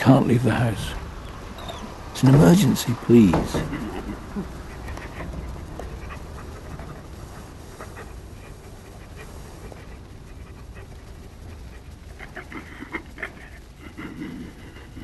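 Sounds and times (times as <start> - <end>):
dog panting: 0.8 - 15.0.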